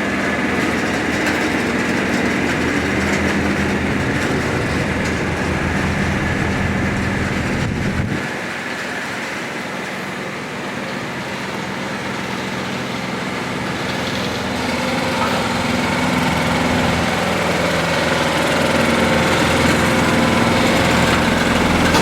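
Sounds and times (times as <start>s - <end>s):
diesel locomotive engine drone: 0.0s - 22.0s
train moving over rails: 0.0s - 22.0s.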